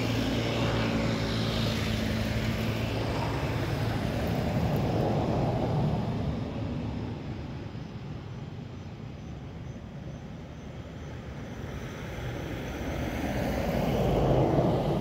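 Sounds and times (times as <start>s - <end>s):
passing vehicle engine drone: 0.0s - 8.0s, 11.0s - 15.0s.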